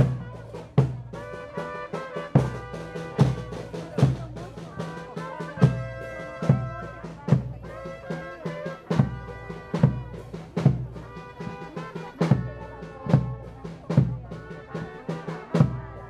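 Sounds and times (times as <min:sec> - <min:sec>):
bass drum beat: 0:00.0 - 0:14.8
brass band playing slow march: 0:00.0 - 0:16.0.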